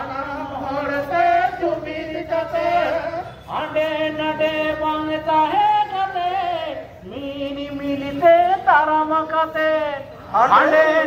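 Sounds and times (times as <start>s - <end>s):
man singing slow chant: 0.0s - 11.0s.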